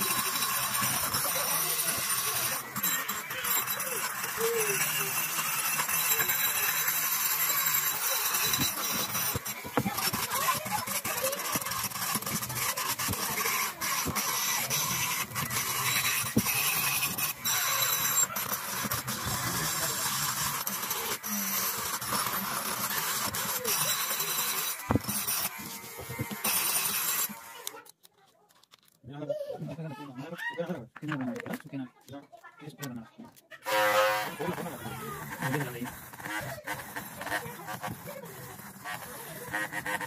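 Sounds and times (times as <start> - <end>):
rotary tool grinding metal: 0.0 - 29.0, 29.8 - 40.0.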